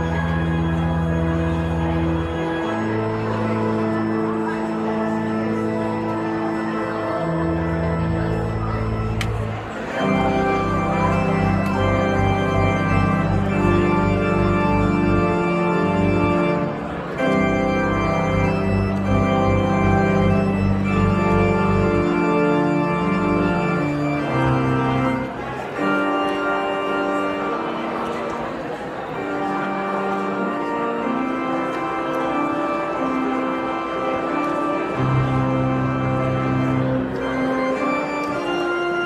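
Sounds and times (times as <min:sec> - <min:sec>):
deep organ pedal bass: 0:00.0 - 0:27.5, 0:29.2 - 0:39.0
church organ playing chords: 0:00.0 - 0:39.0.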